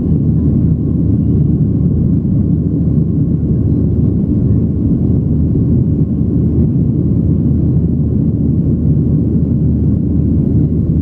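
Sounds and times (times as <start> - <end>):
jet engines and rushing air: 0.0 - 11.0.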